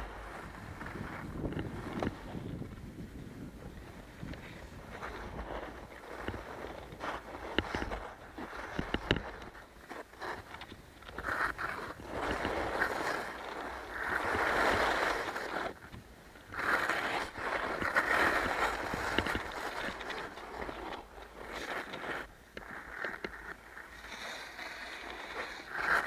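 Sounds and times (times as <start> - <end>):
skis scraping over snow: 0.0 - 26.0.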